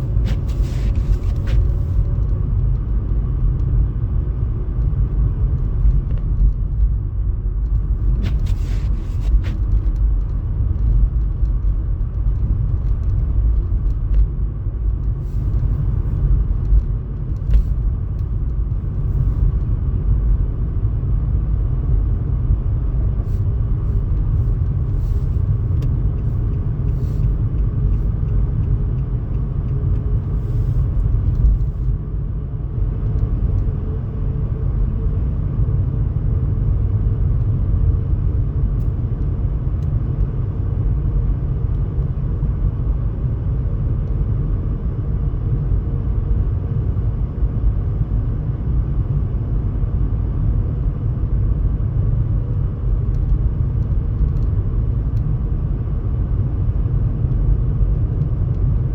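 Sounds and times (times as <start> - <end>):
car rumble on road: 0.0 - 58.9.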